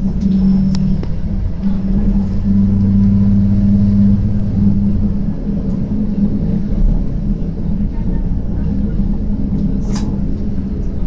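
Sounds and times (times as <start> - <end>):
low drive drone: 0.0 - 11.0
train running gear rumble: 0.0 - 11.0.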